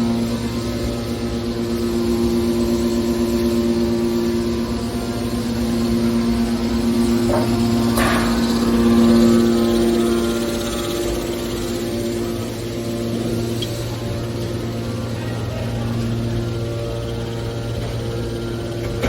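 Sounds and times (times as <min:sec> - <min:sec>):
hydraulic power unit humming: 0:00.0 - 0:19.0.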